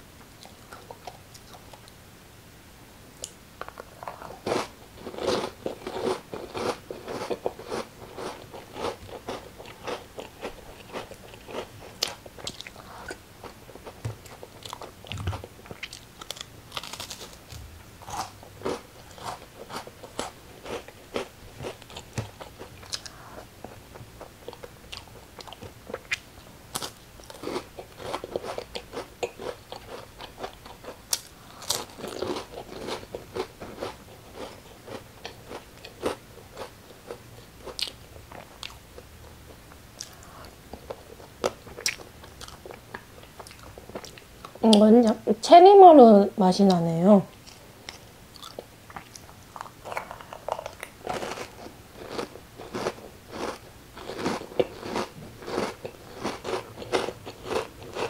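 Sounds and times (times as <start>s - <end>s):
chewing crunchy food: 3.2s - 44.8s, 47.3s - 58.0s.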